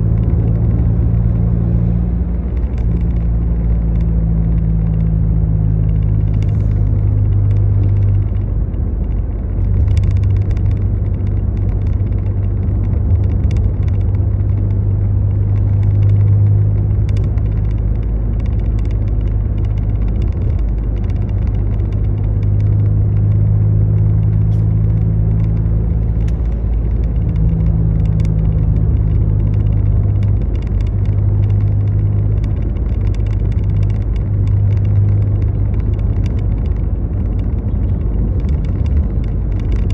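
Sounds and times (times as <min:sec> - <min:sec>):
motor vehicle engine rumbling: 0:00.0 - 0:39.9.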